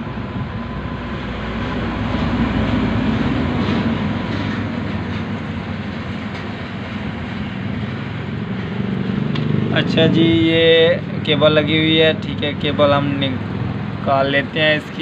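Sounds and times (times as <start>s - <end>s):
steady rumbling background noise: 0.0s - 15.0s.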